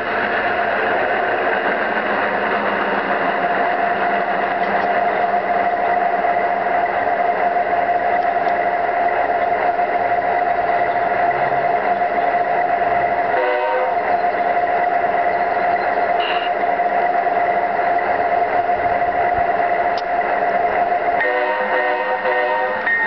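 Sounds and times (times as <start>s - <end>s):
model locomotive engine drone: 0.0s - 23.0s.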